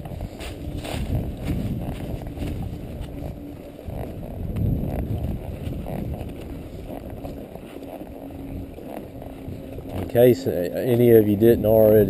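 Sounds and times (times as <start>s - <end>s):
hoof thuds and scuffs: 0.0s - 10.3s
low uneven rumble: 0.0s - 12.0s.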